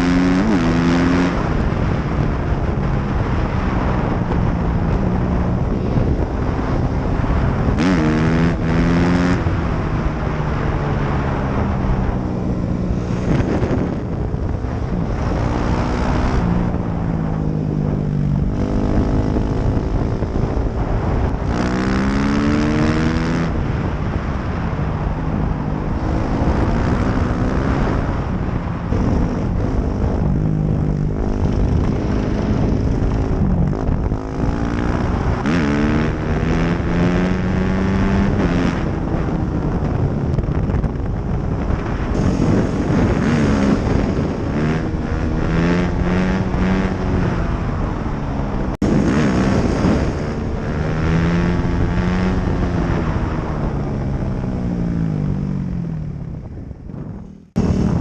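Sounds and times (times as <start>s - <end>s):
dirt bike engine accelerating: 0.0s - 58.0s.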